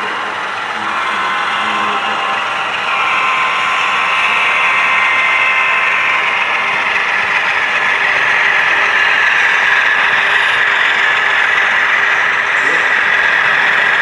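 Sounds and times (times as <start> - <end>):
model trains whirring on rails: 0.0 - 14.0.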